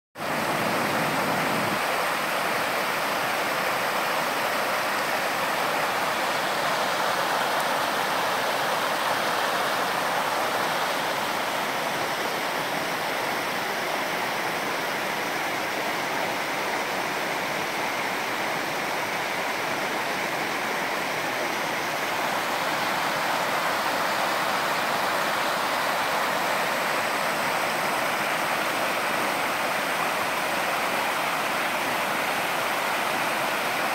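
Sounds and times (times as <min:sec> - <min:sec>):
river water rushing over cascades: 0:00.2 - 0:33.9.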